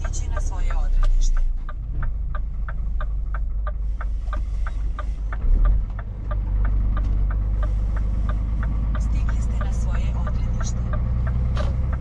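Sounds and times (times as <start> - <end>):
truck engine drone: 0.0 - 12.0
turn indicator clicking: 0.0 - 12.0.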